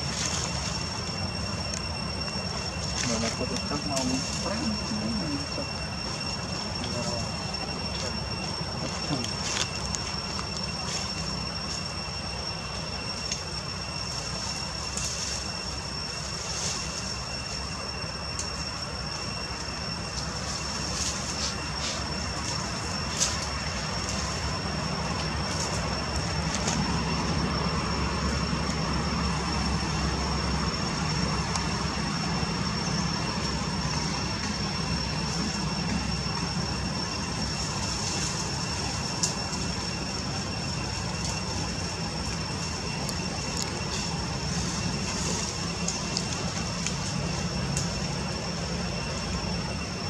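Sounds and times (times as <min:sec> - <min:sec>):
high-pitched whine: 0:00.0 - 0:50.0.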